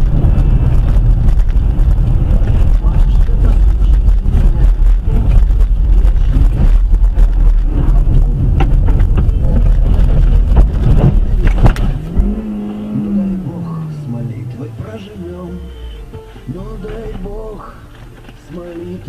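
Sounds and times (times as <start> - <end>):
rising and falling hum: 0.0 - 17.8
car rumbling on road: 0.0 - 19.0.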